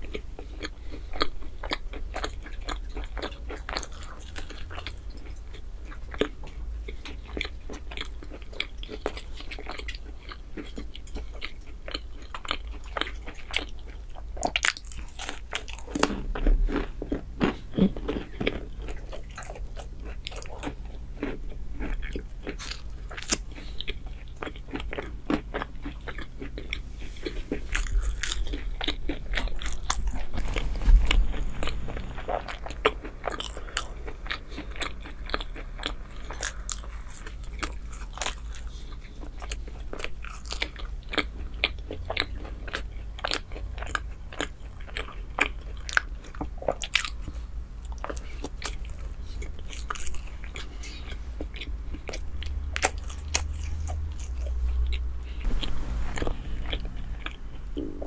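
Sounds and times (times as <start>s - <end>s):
person biting and chewing bread: 0.0s - 58.0s.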